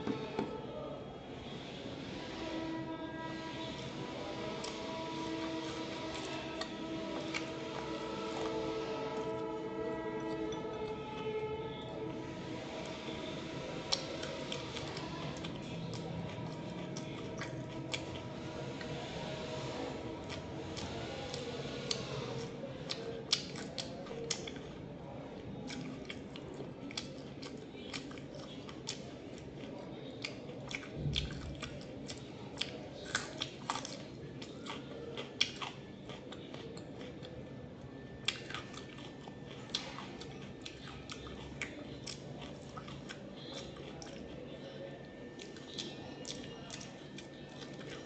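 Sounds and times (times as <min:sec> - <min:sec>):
person chewing food: 0:04.6 - 0:11.5, 0:13.8 - 0:19.1, 0:19.7 - 0:24.8, 0:25.6 - 0:48.0.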